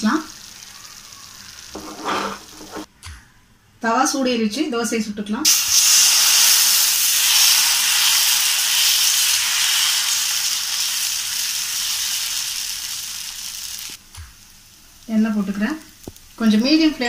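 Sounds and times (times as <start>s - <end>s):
batter sizzling on hot pan: 0.0s - 2.9s, 5.5s - 17.0s.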